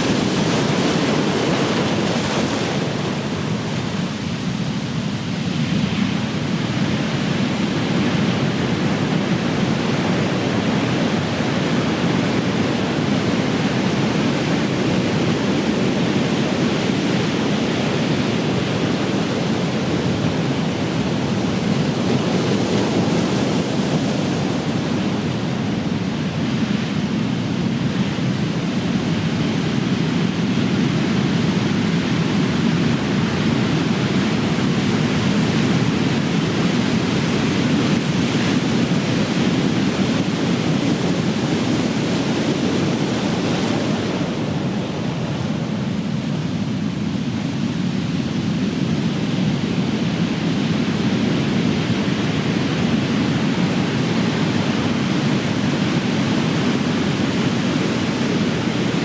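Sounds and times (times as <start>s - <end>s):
ocean waves breaking: 0.0s - 30.3s, 31.6s - 59.0s.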